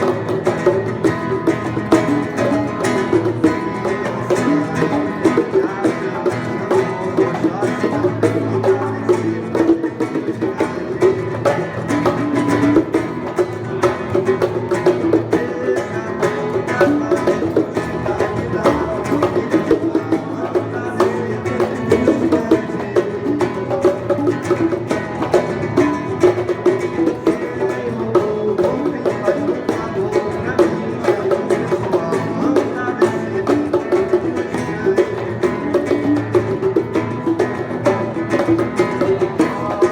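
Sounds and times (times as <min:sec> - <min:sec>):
hand percussion strokes: 0:00.0 - 0:39.9
plucked acoustic guitar: 0:00.0 - 0:39.9.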